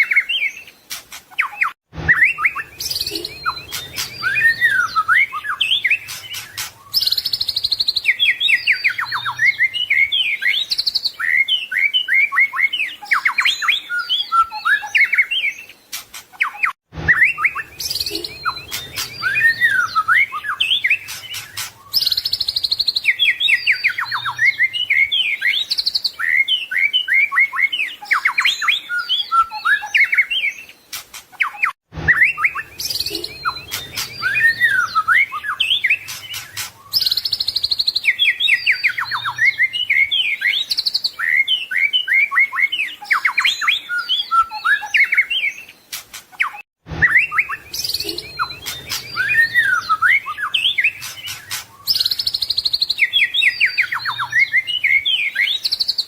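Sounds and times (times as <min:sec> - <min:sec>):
songbird singing whistles and trills: 0:00.0 - 0:56.0.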